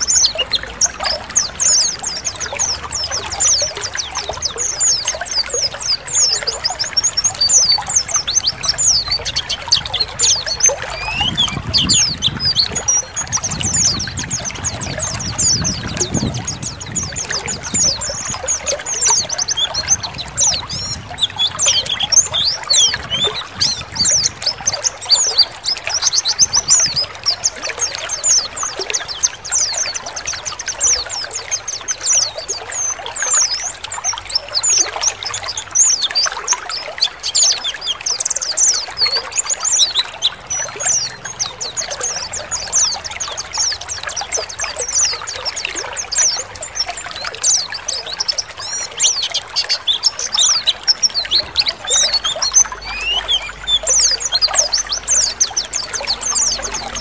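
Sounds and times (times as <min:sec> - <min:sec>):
birds chirping and twittering: 0:00.0 - 0:57.0
water trickling: 0:00.0 - 0:57.0.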